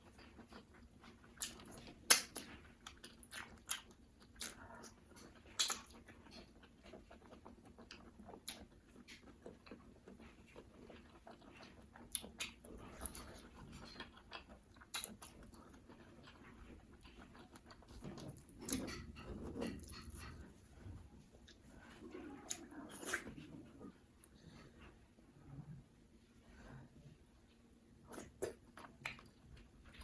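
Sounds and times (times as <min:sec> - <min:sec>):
wet chewing and lip-smacking: 0:00.0 - 0:24.6, 0:28.1 - 0:30.0.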